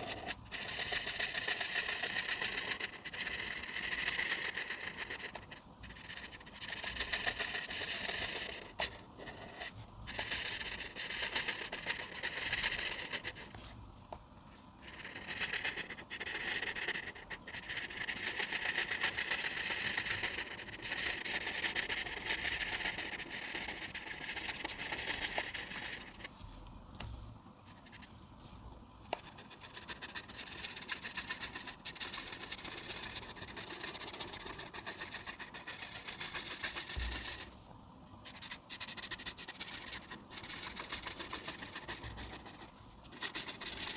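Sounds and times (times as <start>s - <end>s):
coloring tool scratching paper: 0.0s - 13.6s, 14.8s - 26.3s, 29.1s - 37.6s, 38.2s - 43.9s.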